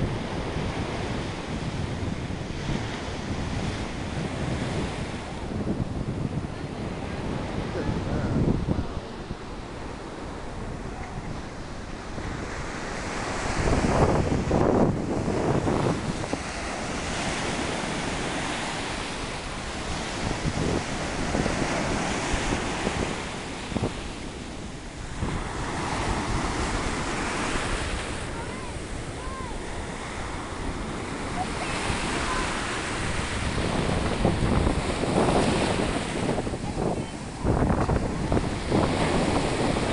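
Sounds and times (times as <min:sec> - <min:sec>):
ocean surf breaking: 0:00.0 - 0:39.9
wind rumbling on microphone: 0:00.0 - 0:39.9.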